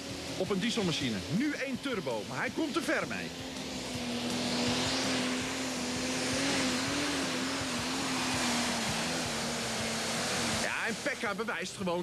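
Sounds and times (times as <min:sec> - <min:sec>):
rushing hiss: 0:00.0 - 0:11.8
diesel engine running under load: 0:00.0 - 0:12.0.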